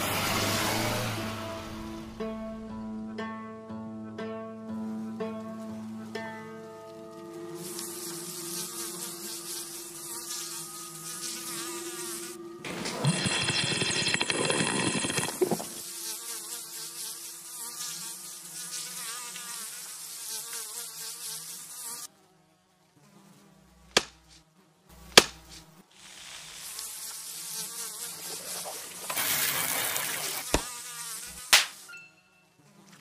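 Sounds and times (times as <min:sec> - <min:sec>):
housefly buzzing: 0:04.8 - 0:33.0.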